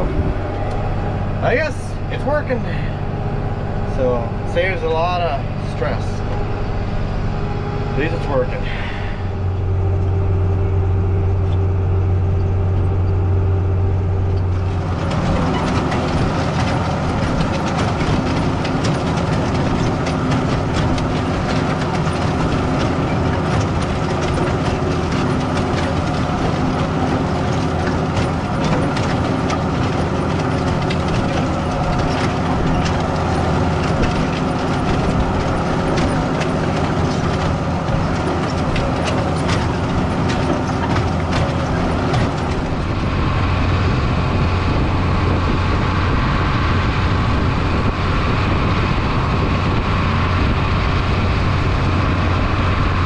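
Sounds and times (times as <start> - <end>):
planter rattling through dirt: 0.0 - 53.0
tractor engine drone: 0.0 - 53.0.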